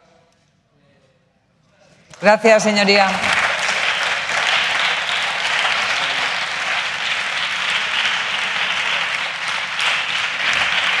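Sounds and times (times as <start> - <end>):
people applauding: 2.1 - 11.0.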